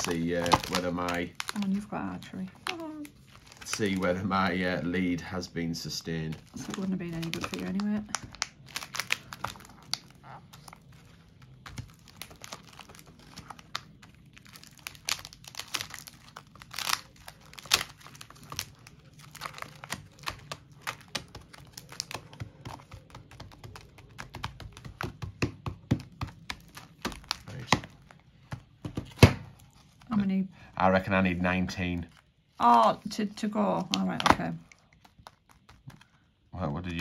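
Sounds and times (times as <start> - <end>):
plastic sleeves crinkling: 0.0 - 37.0.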